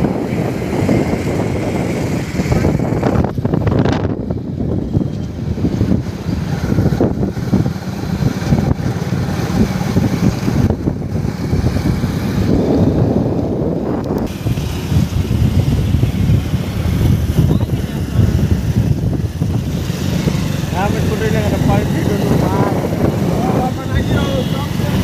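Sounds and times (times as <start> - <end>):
vehicle engine and road noise: 0.0 - 25.0
wind buffeting microphone: 0.0 - 25.0.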